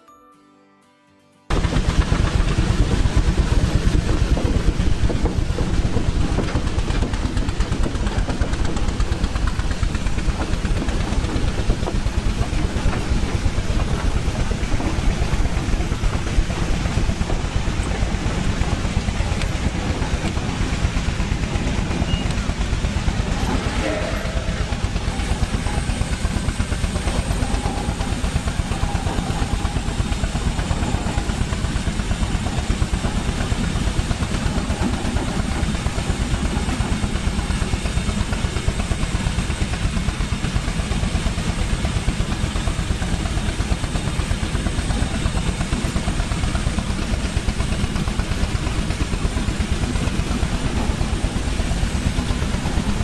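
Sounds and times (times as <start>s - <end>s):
steam traction engine running: 1.5s - 53.0s.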